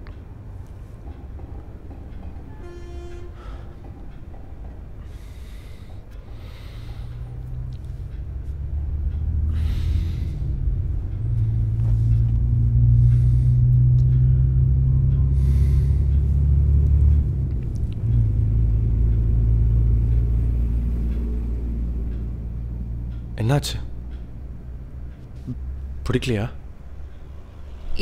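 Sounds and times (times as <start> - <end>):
low rumbling drone: 0.0 - 28.0.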